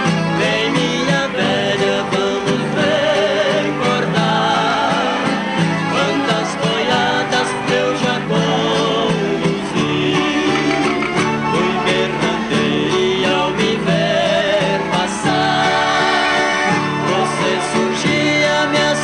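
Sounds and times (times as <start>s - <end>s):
accordion: 0.0s - 19.0s
acoustic guitars strummed and plucked: 0.0s - 19.0s.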